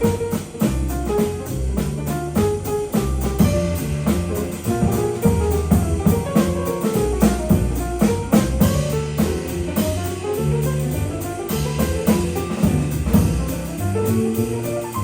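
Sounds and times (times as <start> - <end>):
drum kit cymbals and drums: 0.0 - 15.0
walking bass: 0.0 - 15.0.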